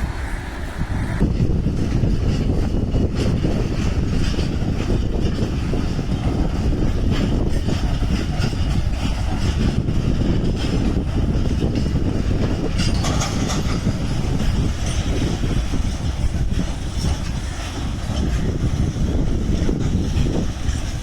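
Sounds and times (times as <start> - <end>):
train wheels rumbling on rail: 0.0 - 21.0
wind on microphone: 0.0 - 21.0
clicks and knocks of wagons: 1.6 - 21.0.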